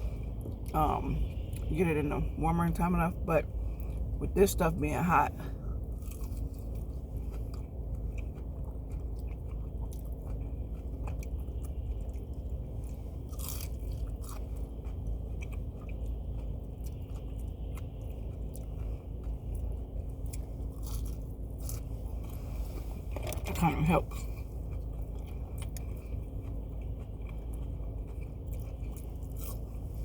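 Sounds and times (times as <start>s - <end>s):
person chewing crunchy food: 5.5s - 30.0s.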